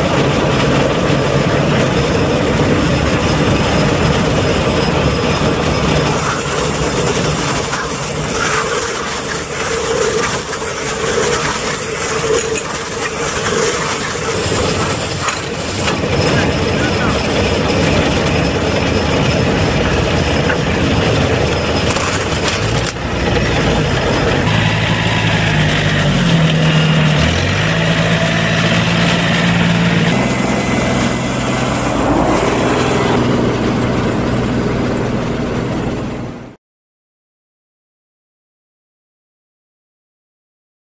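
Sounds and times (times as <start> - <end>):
tractor engine: 0.0 - 36.6
baler wrapper working: 0.1 - 35.2.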